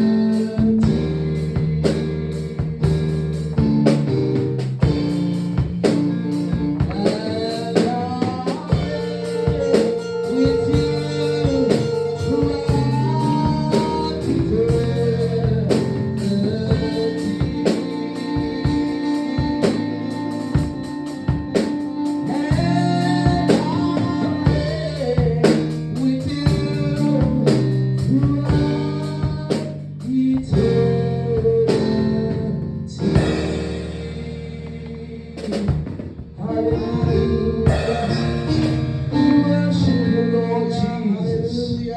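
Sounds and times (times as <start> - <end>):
person singing: 0.0 - 4.0, 4.9 - 41.9
drums: 0.0 - 41.0.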